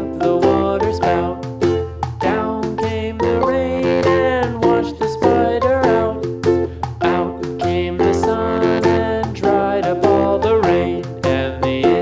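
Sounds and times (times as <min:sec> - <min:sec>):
person singing: 0:00.0 - 0:12.0
upbeat children's music: 0:00.0 - 0:12.0.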